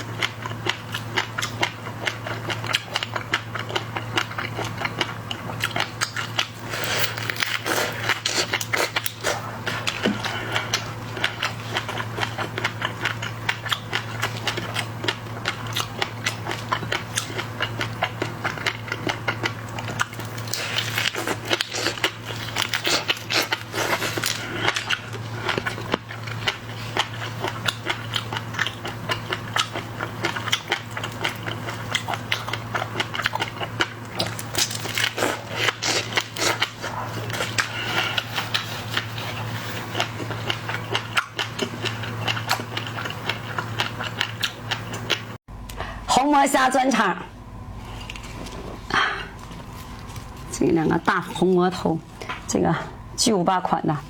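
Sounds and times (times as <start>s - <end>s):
shells cracking and chewing: 0.0s - 45.8s
steady low hum: 0.0s - 54.0s.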